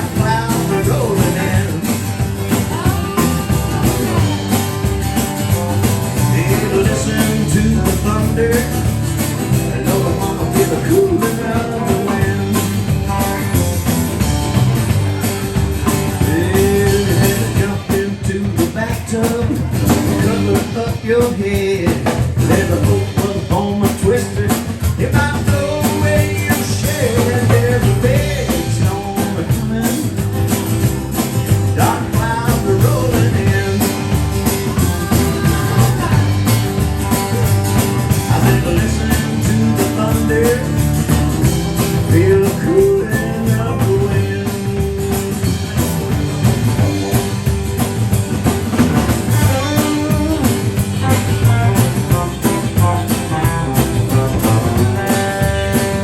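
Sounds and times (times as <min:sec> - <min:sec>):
live blues-rock band: 0:00.0 - 0:56.0.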